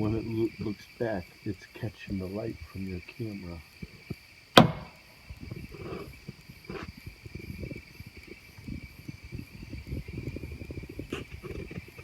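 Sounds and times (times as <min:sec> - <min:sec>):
crickets trilling: 0:00.0 - 0:12.0
low rumbling bumps: 0:00.0 - 0:12.0.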